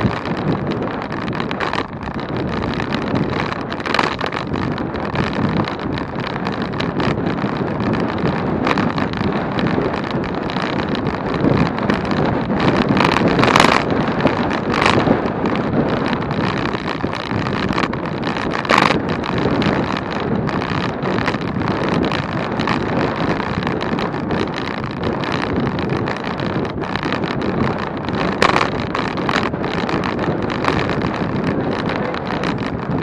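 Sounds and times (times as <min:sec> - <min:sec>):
bicycle road noise: 0:00.0 - 0:33.0
wind buffeting microphone: 0:00.0 - 0:33.0.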